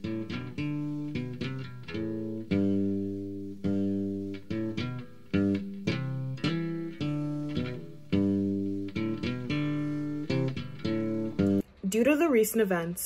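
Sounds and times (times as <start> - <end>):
guitar playing: 0.0 - 12.2.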